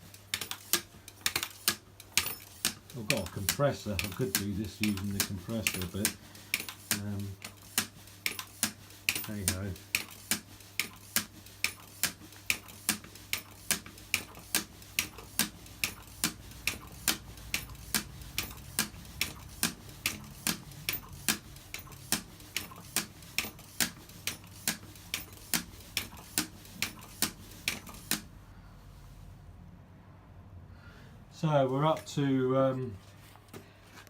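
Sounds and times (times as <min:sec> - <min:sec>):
manual air pump clicking: 0:00.0 - 0:28.3.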